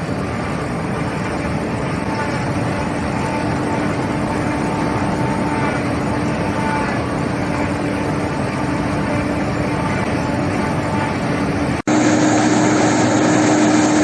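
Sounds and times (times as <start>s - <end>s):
harvester running: 0.0s - 14.0s.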